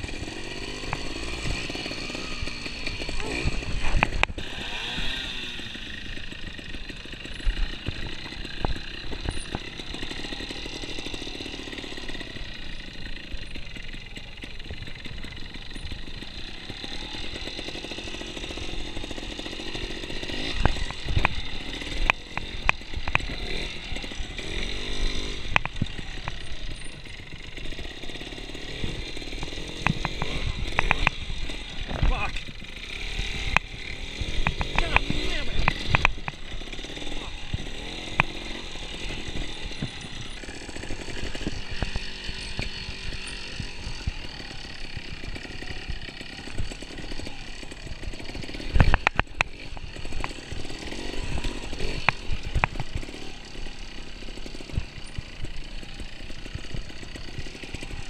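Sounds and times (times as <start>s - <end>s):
motorcycle engine revving: 0.0s - 58.0s
motorcycle hitting rocks and logs: 0.0s - 58.0s.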